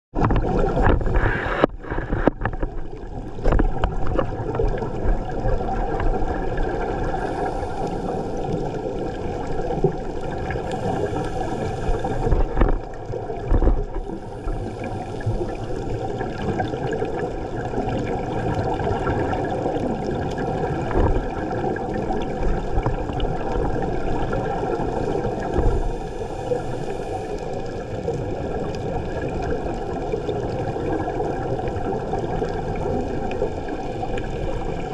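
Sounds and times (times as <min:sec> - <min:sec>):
underwater gurgling water: 0:00.1 - 0:34.9.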